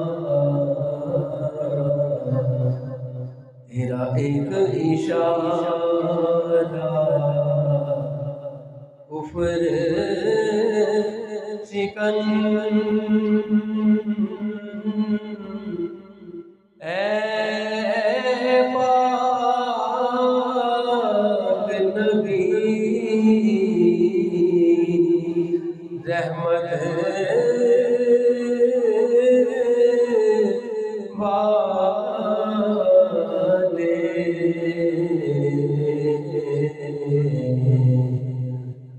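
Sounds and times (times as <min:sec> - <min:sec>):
man singing into a microphone: 0:00.0 - 0:03.0, 0:03.7 - 0:08.4, 0:09.1 - 0:38.7
man chanting in long held notes: 0:00.0 - 0:08.4, 0:09.1 - 0:15.9, 0:16.8 - 0:38.7.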